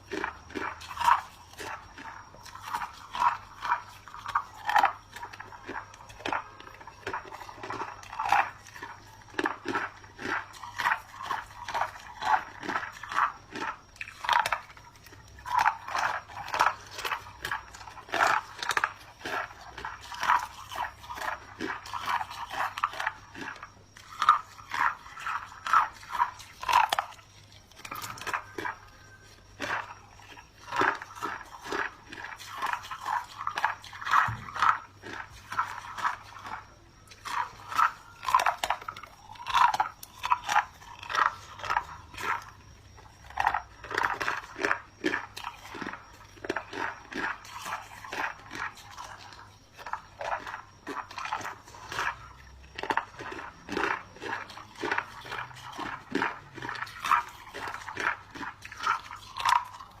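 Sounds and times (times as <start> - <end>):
ice chunks being chewed: 0.0 - 60.0.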